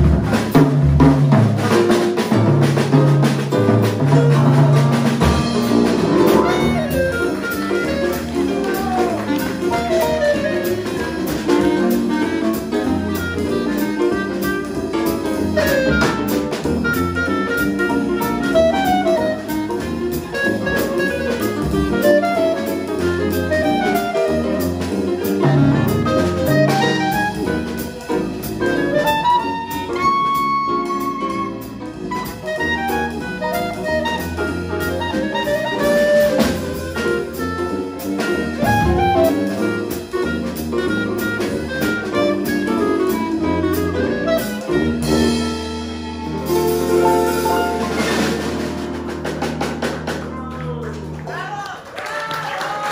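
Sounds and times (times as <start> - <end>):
drum kit: 0.0 - 51.6
guitar: 0.0 - 51.8
piano: 0.0 - 52.9
clarinet melody: 1.6 - 49.3.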